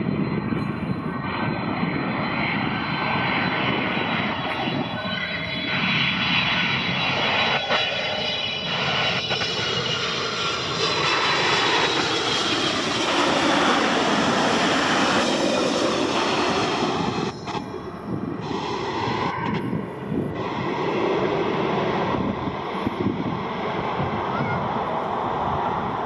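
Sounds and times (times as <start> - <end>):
jet airliner engines roaring: 0.0 - 26.0.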